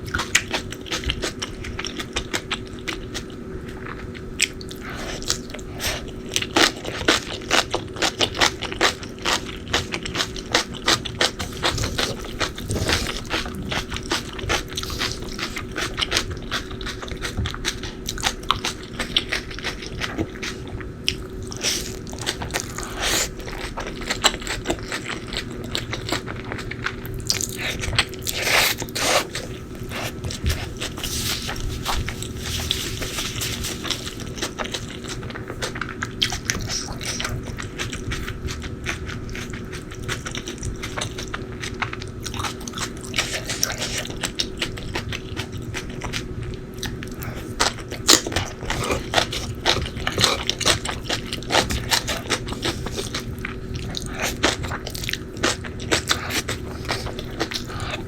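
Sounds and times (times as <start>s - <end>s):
crunchy eating and chewing: 0.0s - 58.0s
steady low hum: 0.0s - 58.0s.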